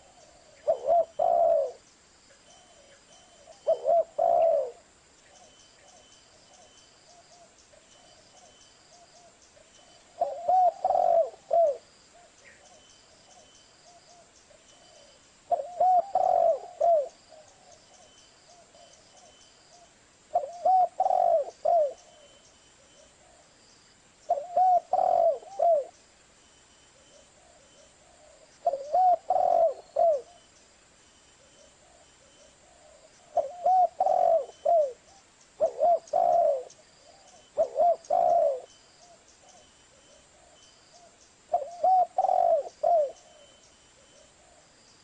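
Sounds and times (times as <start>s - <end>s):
dove cooing: 0.0s - 1.8s, 2.6s - 23.5s, 24.3s - 26.0s, 27.0s - 30.5s, 31.4s - 44.8s.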